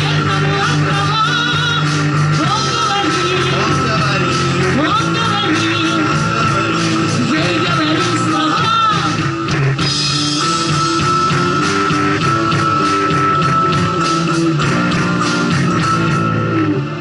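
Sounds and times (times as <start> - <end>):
acoustic guitar: 0.0 - 17.0
bass guitar: 0.0 - 17.0
drum kit: 0.0 - 17.0
electric guitars: 0.0 - 17.0.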